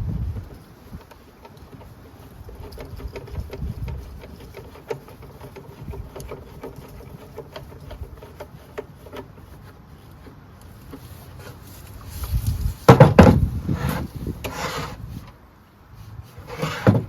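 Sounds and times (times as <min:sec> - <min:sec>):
recoil starter clicking and scraping: 0:00.3 - 0:17.0.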